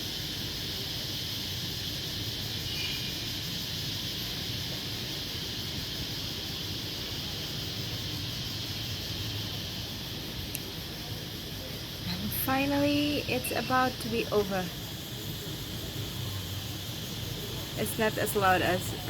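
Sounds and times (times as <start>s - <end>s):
crickets chirping: 0.0s - 19.0s
low rumble of city traffic: 0.0s - 19.0s.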